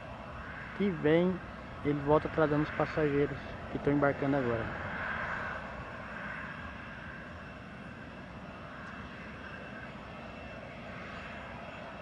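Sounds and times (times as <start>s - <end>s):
jet airliner engine rumble: 0.0s - 12.0s.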